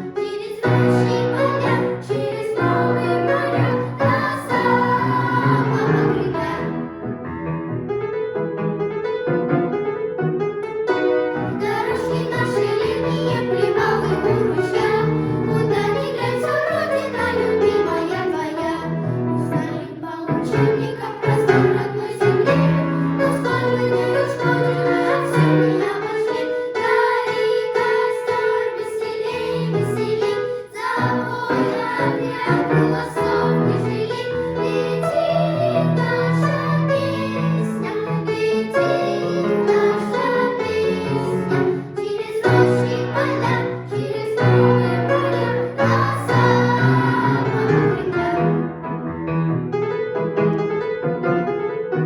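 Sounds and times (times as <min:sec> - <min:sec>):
children singing: 0:00.0 - 0:06.9, 0:11.4 - 0:48.5.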